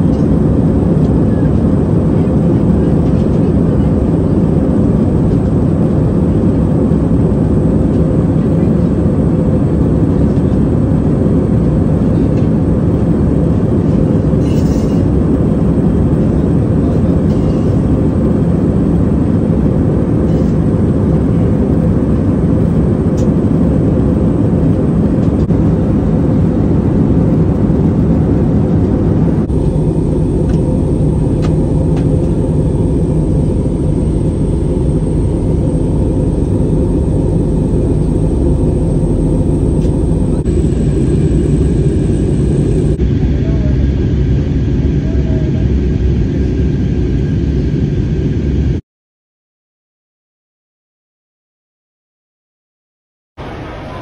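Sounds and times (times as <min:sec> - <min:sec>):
airliner cabin rumble: 0:00.0 - 0:48.8
steady hum: 0:00.0 - 0:48.8.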